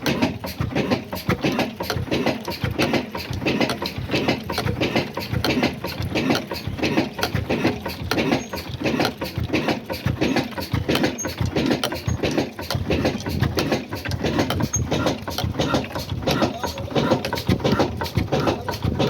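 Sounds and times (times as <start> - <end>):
diesel engine knocking: 0.0 - 19.0.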